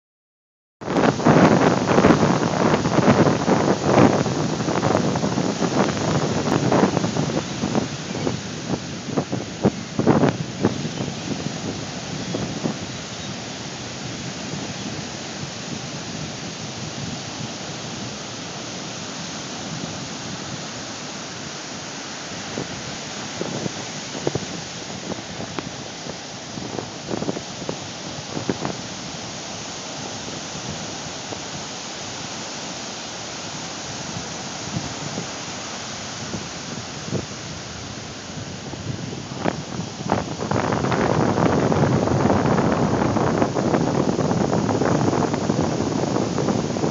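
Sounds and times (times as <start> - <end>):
ocean surf: 0.8 - 46.9.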